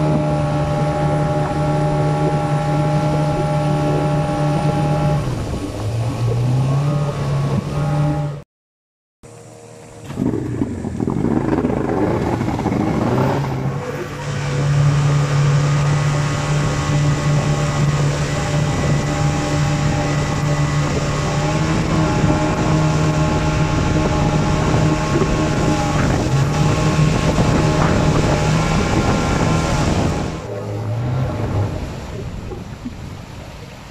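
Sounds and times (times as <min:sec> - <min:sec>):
outboard motor running: 0:00.0 - 0:08.4, 0:09.2 - 0:33.9
water rushing along hull: 0:00.0 - 0:08.4, 0:09.3 - 0:33.9.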